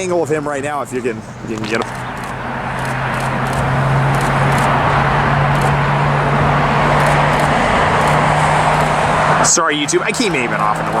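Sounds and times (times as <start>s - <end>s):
jet engines of taxiing airliner: 0.0s - 11.0s.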